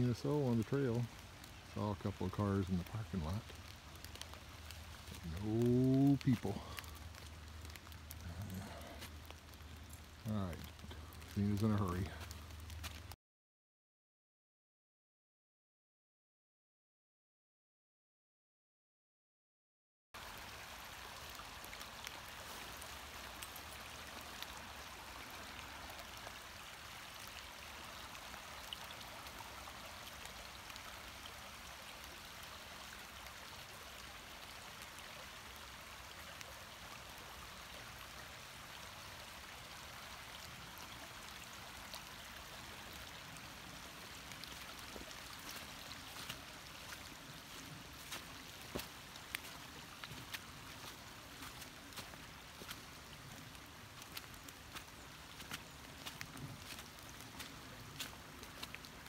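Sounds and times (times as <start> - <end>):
creek running over rocks: 0.0 - 13.2, 20.2 - 59.0.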